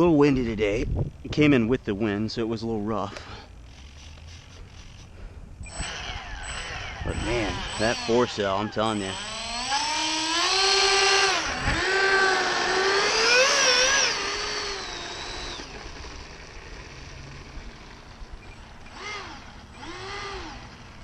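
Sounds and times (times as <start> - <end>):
electric fan motors whining: 0.0 - 21.0.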